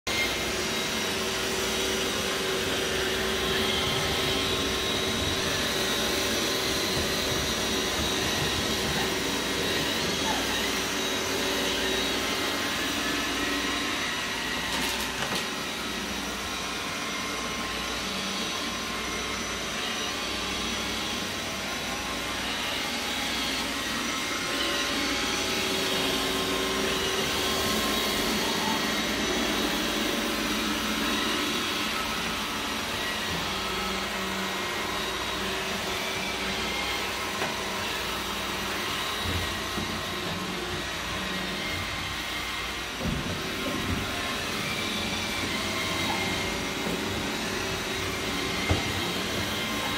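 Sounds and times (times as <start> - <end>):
robot vacuum motor hum and whine: 0.1 - 49.9.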